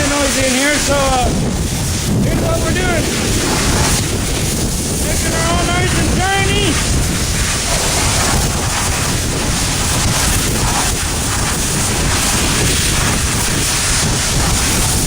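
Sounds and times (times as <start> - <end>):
pressure washer spraying: 0.0 - 15.0.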